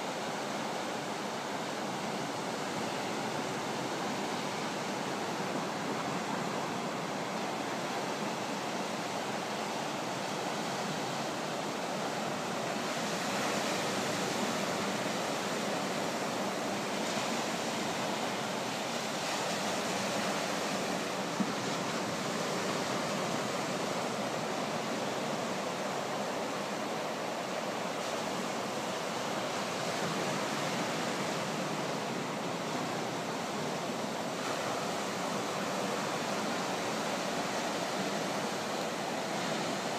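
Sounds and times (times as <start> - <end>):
ocean surf on sandy beach: 0.0 - 39.9.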